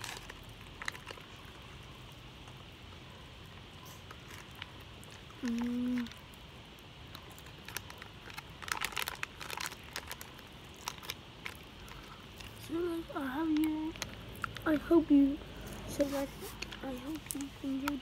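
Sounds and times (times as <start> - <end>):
candy packet crinkling: 0.0 - 2.7, 3.4 - 18.0.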